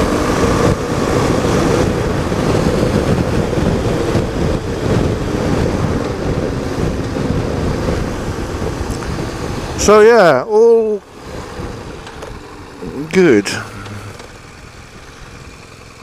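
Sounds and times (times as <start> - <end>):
wind rushing over microphone: 0.0 - 15.6
motorcycle engine drone: 0.0 - 16.0
road noise: 0.0 - 16.0.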